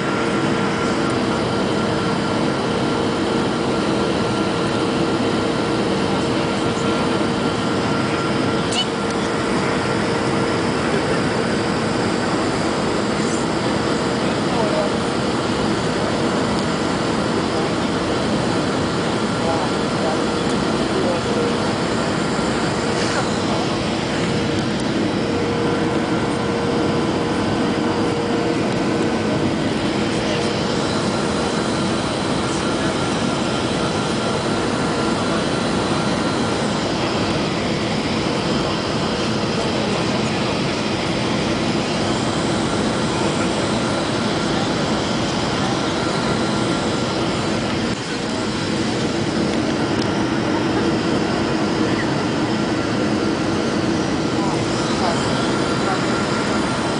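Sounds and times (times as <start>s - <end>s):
airplane cabin engine noise: 0.0s - 56.9s
steady engine tones: 0.0s - 56.9s.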